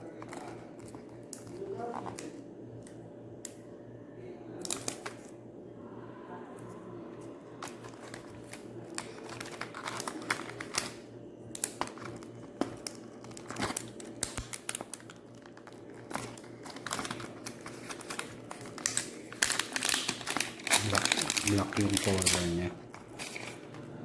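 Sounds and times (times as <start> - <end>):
plastic wrapping crinkling and tearing: 0.0 - 2.4, 4.6 - 5.3, 7.5 - 23.8.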